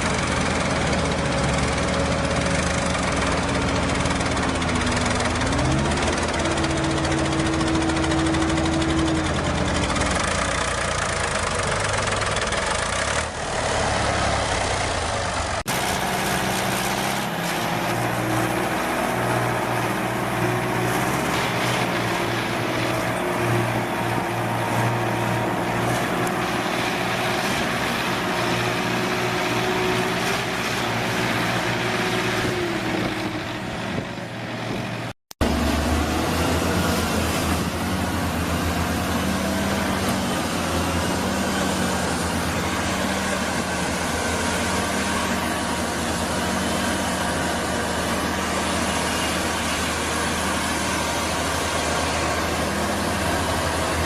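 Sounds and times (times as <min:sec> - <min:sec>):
tractor diesel engines revving: 0:00.0 - 0:54.0.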